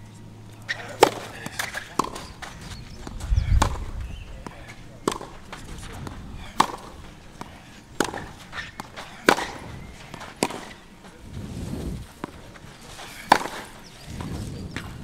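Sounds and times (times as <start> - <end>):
tennis rackets hitting ball: 0.6 - 11.3, 12.0 - 15.0.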